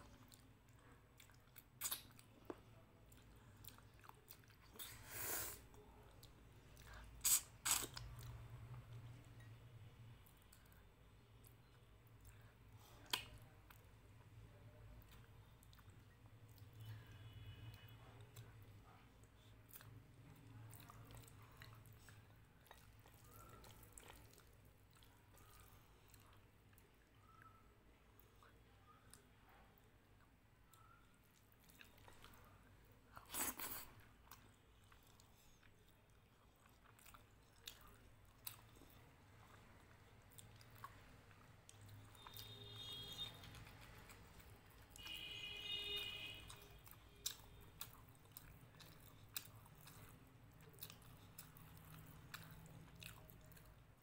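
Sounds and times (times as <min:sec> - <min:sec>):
chewing with wet clicks: 0:00.0 - 0:05.0, 0:05.7 - 0:54.0.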